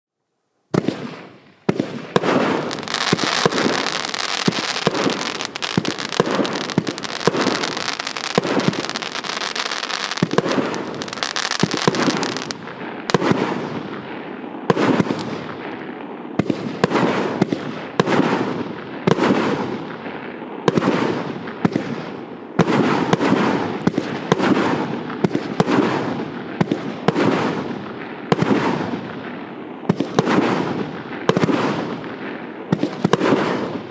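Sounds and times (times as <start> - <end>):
fireworks bursts: 0.7 - 33.9
fireworks launching: 0.7 - 33.9
fireworks crackling: 0.8 - 33.9.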